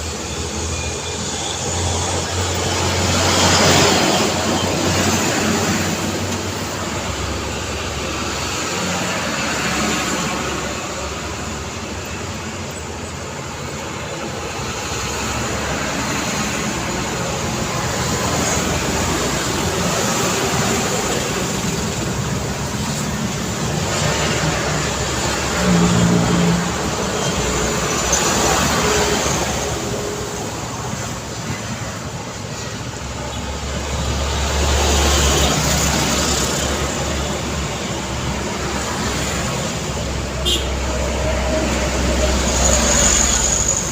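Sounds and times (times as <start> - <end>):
passing vehicles: 0.0 - 43.9.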